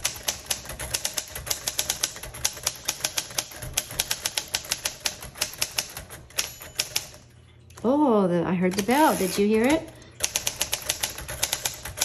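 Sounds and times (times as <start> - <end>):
manual typewriter typing: 0.0 - 7.3, 8.7 - 12.0.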